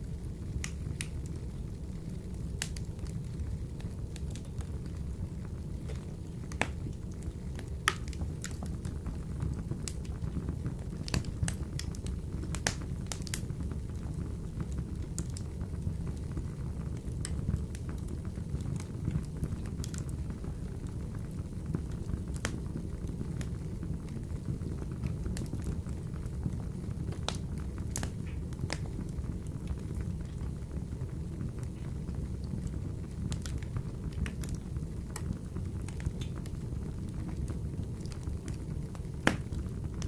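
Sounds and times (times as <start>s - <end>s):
wood fire burning in stove: 0.0s - 40.0s
logs crackling and popping: 0.3s - 40.0s.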